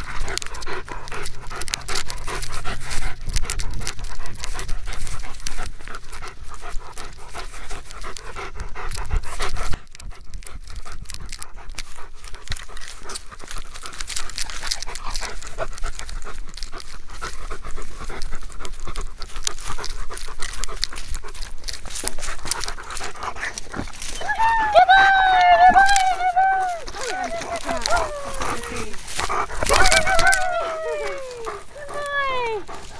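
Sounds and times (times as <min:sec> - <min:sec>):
dog panting fast: 0:00.0 - 0:32.9.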